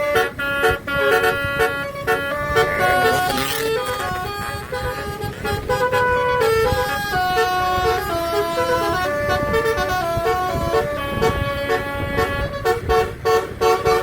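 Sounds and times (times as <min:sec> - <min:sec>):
bus horn playing a melody: 0:00.0 - 0:14.0.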